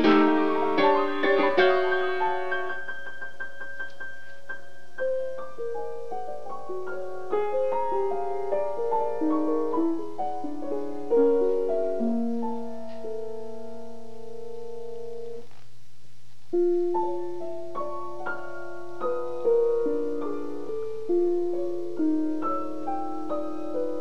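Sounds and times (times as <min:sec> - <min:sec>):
solo grand piano: 0:00.0 - 0:15.4, 0:16.5 - 0:24.0.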